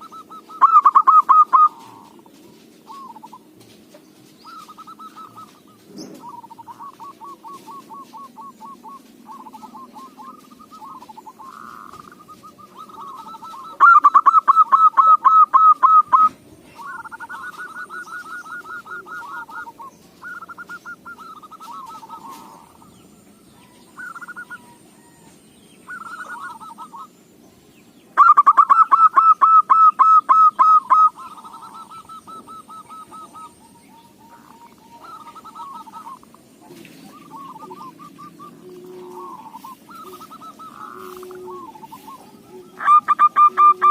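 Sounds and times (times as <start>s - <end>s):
dove cooing: 0.0s - 27.3s, 28.1s - 43.9s.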